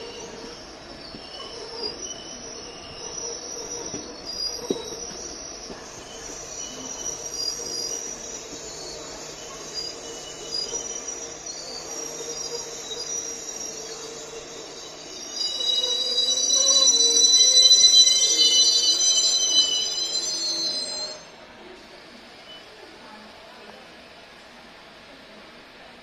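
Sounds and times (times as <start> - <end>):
high squealing tones: 0.0 - 21.3
train running slowly: 0.0 - 26.0.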